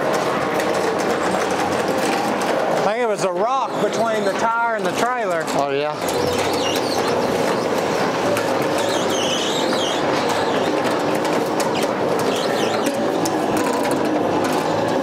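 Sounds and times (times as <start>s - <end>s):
winch motor running: 0.0s - 15.0s.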